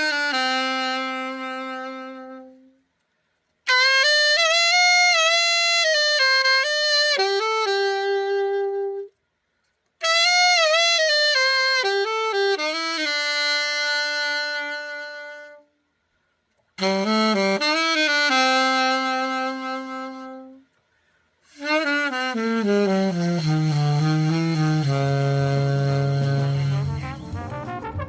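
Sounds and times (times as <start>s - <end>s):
alto saxophone solo: 0.0s - 15.8s, 16.6s - 28.0s.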